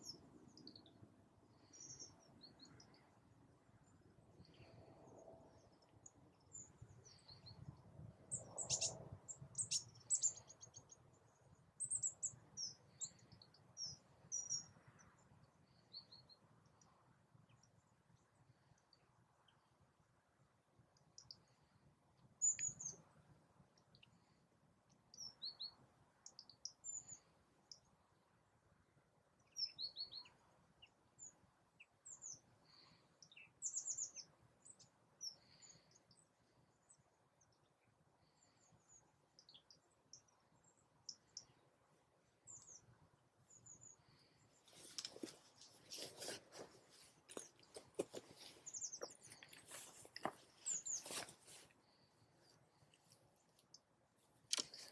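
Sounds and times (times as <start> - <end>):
small birds chirping: 0.0 - 28.2, 29.3 - 54.9.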